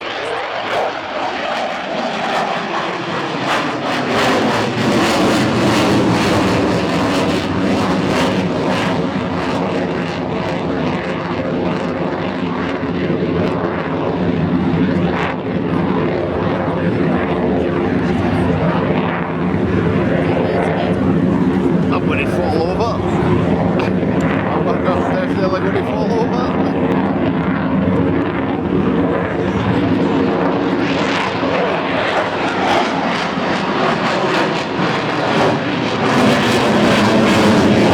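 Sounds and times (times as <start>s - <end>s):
jet engine roar: 0.0s - 37.9s.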